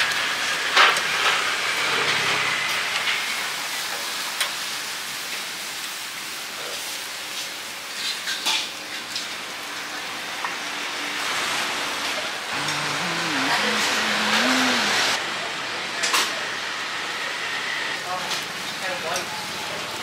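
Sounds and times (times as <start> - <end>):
meat sizzling on a grill: 0.0 - 13.4, 16.5 - 20.0.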